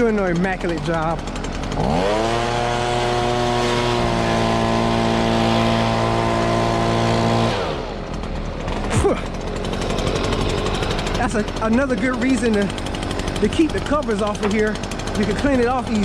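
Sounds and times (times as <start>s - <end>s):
leaf blower revving: 0.0s - 16.0s.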